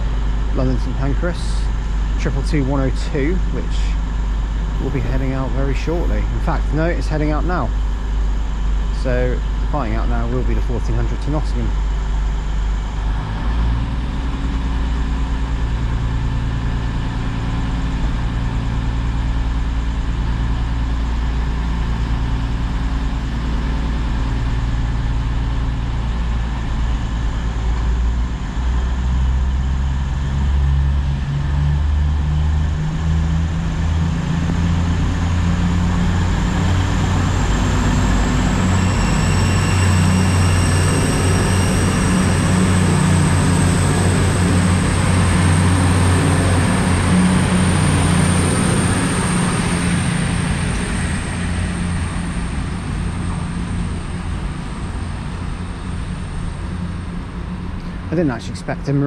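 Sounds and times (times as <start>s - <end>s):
diesel train engines running hard: 0.0s - 59.0s
high whine rising in pitch: 0.0s - 59.0s.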